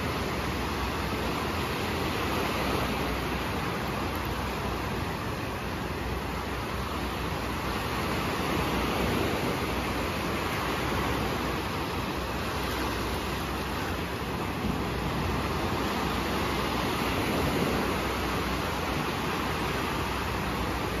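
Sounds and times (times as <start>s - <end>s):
waves breaking on shore: 0.0s - 21.0s.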